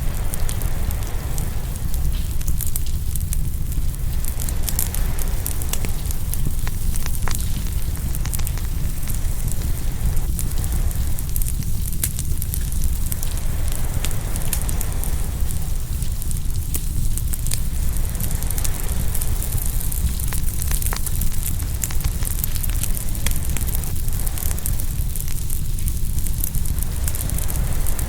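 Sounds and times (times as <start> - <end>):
low rumble: 0.0 - 28.0
sharp pops of fire: 0.0 - 28.0
wood fire crackling: 0.0 - 28.0.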